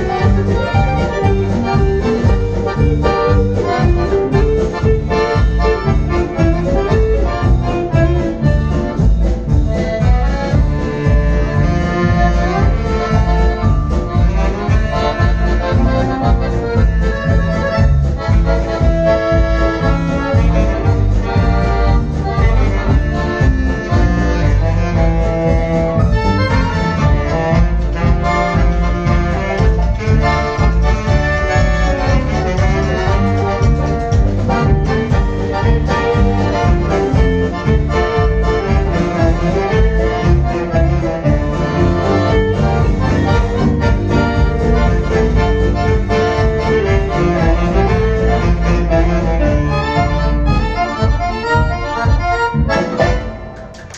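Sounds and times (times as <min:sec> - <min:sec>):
accordion melody: 0:00.0 - 0:53.9
live dance band: 0:00.0 - 0:53.9.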